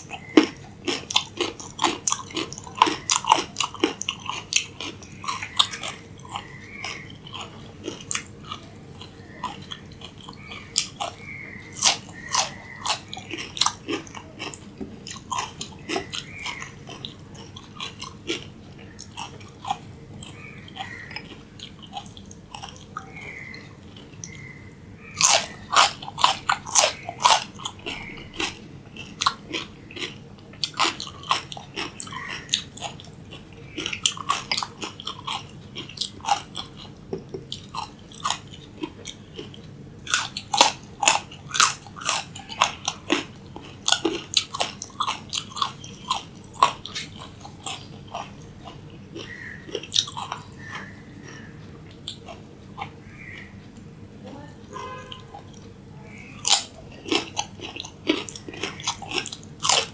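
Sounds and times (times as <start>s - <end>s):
crunching raw vegetables: 0.0s - 53.6s, 54.7s - 59.9s.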